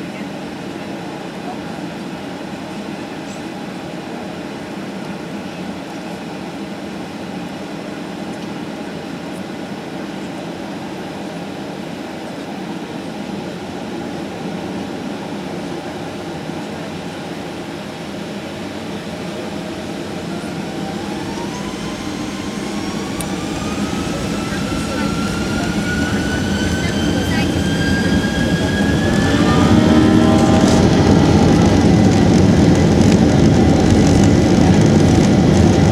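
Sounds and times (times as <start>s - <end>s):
jet engines rumbling in cabin: 0.0s - 35.9s
jet engines whining: 0.0s - 35.9s.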